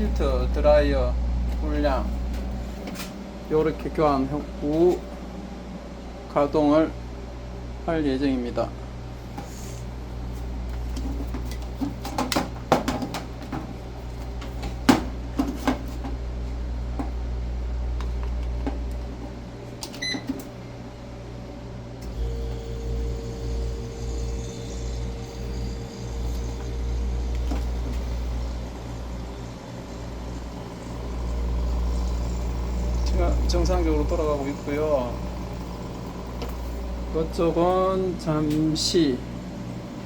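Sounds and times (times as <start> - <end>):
freezer low hum: 0.0 - 40.0
freezer whine and pulsing: 0.0 - 40.0.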